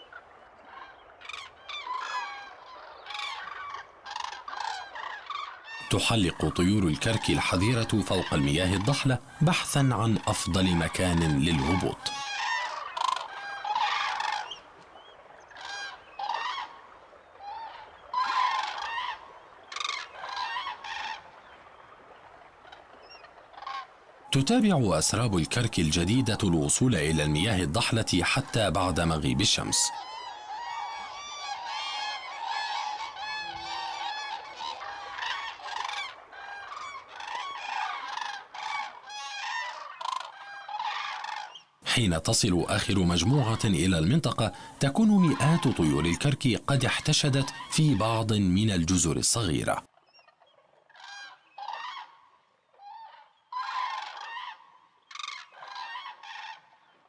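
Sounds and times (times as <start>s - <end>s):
cranes calling: 0.0s - 49.0s, 50.0s - 56.9s.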